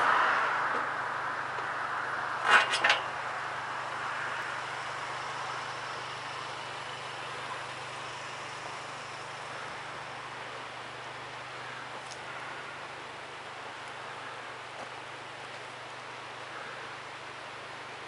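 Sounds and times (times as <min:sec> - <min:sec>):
car passing: 0:00.0 - 0:17.9.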